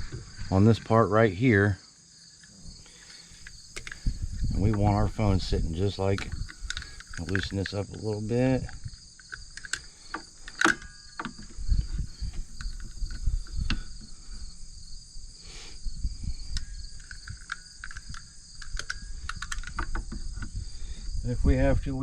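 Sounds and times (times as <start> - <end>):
crickets chirping: 0.0 - 22.0
low rumbles: 2.5 - 22.0.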